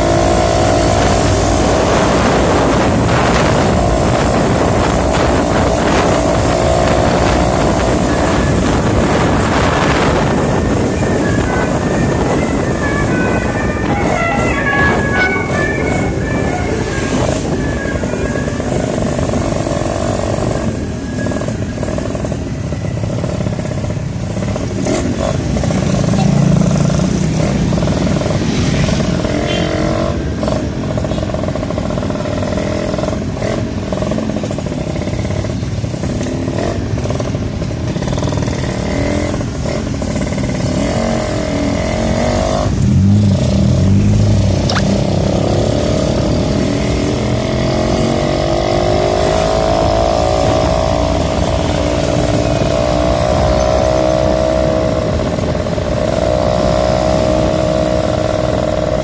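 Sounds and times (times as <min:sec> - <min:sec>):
two-stroke motorcycle engine: 0:00.0 - 0:59.0
wind and road noise: 0:00.0 - 0:59.0.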